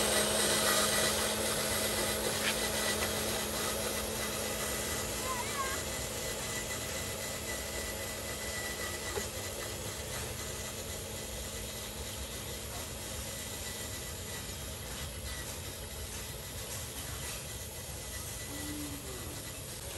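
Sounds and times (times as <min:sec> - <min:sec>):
toy truck motor whirring: 0:00.0 - 0:19.9.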